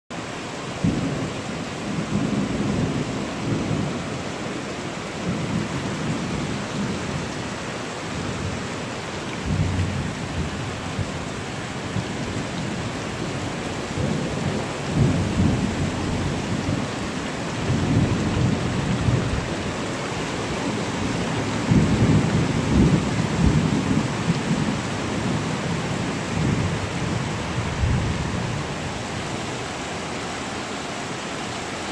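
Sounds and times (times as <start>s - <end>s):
heavy rain on pavement and cars: 0.1s - 31.9s.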